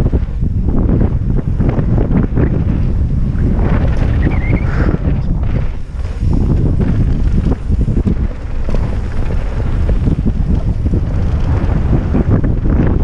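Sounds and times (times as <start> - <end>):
bike knocking and rattling: 0.0 - 13.0
tyres rumbling on dirt: 0.0 - 13.0
wind buffeting microphone: 0.0 - 13.0.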